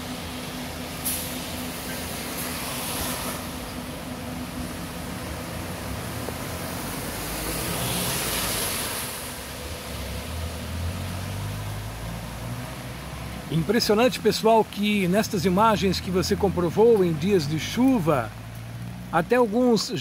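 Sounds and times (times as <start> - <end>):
bus engine rumbling: 0.0 - 20.0
traffic on a wet road: 0.0 - 20.0
rain hiss: 0.1 - 20.0.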